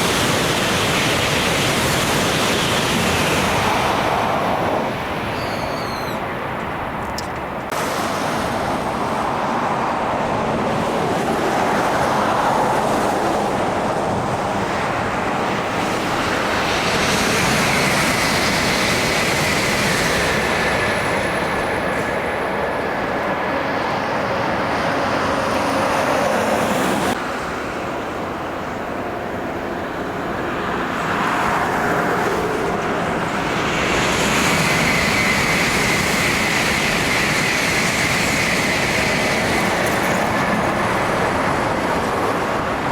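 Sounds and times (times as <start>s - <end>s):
high-speed train passing: 0.0s - 42.9s
road traffic: 0.0s - 42.9s.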